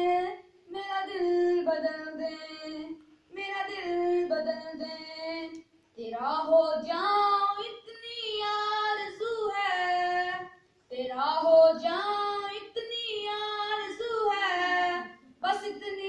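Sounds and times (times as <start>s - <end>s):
boy singing a hymn: 0.0s - 16.0s.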